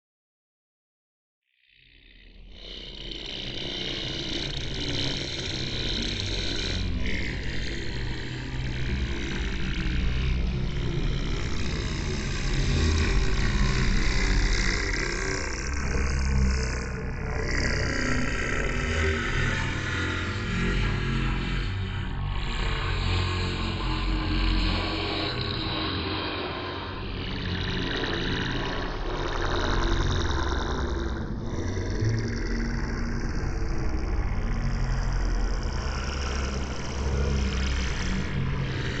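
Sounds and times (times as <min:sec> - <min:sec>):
buzzing mechanical drone: 0:01.8 - 0:39.0.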